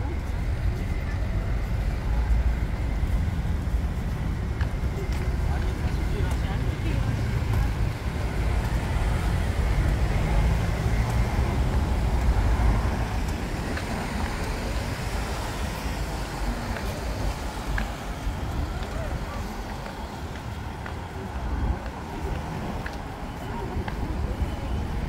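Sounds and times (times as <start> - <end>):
cars passing on city road: 0.0 - 25.0.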